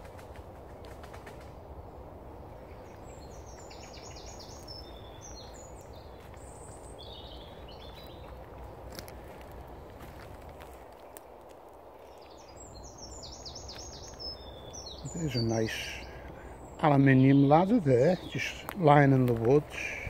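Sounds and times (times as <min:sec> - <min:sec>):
low outdoor background noise: 0:00.0 - 0:20.0
songbird singing: 0:00.0 - 0:20.0.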